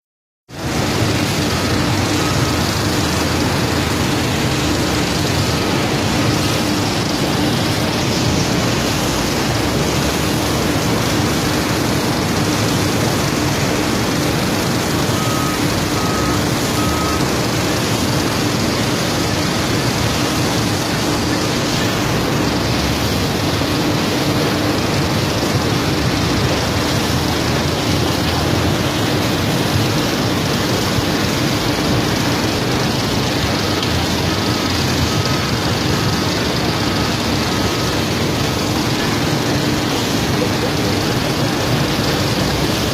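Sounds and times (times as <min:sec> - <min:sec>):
sand washing machine running: 0:00.5 - 0:42.9.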